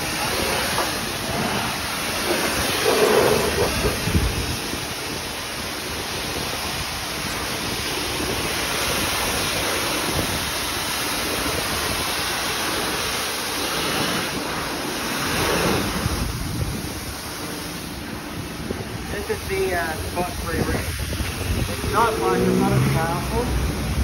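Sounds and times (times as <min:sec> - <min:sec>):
pressure washer spraying a car: 0:00.0 - 0:24.0.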